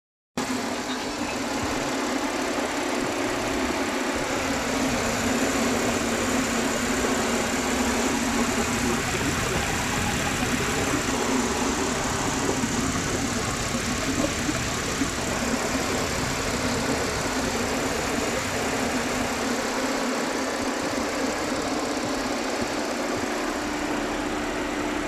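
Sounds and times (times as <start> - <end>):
car engine idling: 0.4 - 25.0.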